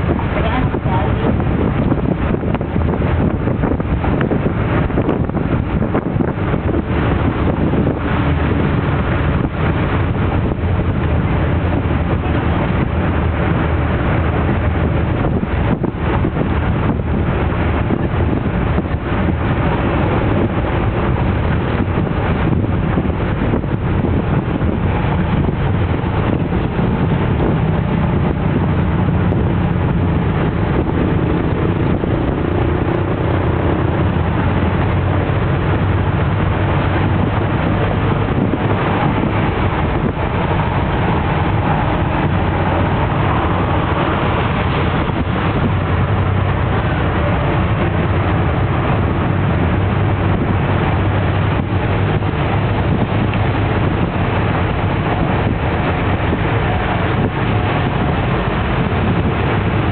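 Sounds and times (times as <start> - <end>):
diesel engine running: 0.0 - 59.9
road and wind noise: 0.0 - 59.9.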